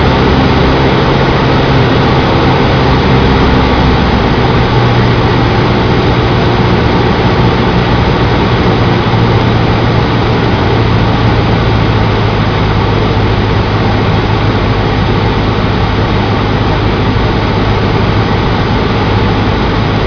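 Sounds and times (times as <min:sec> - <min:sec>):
light aircraft engine droning: 0:00.0 - 0:20.0.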